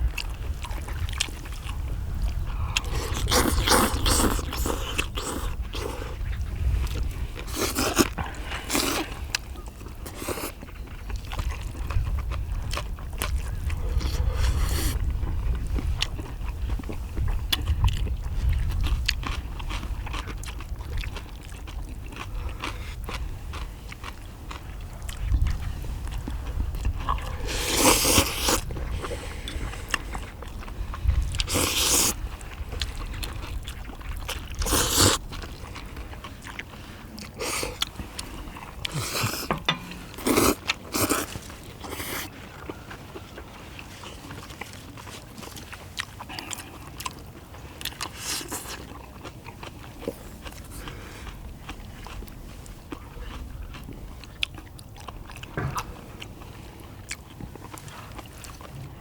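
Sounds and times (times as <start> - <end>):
close chewing and biting: 0.0 - 59.0.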